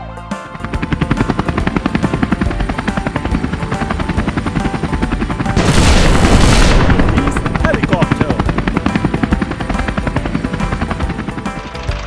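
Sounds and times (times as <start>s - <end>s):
helicopter rotor chopping: 0.4s - 12.0s.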